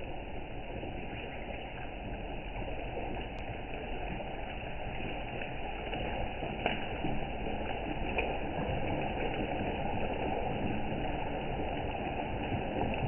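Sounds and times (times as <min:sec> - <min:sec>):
hot oil poured into pot: 0:00.0 - 0:13.0
pot bubbling and hissing: 0:00.0 - 0:13.0.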